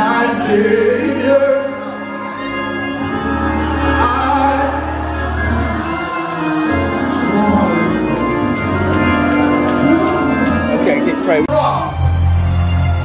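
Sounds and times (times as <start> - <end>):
gospel singing: 0.0 - 11.0
band playing: 0.0 - 13.0.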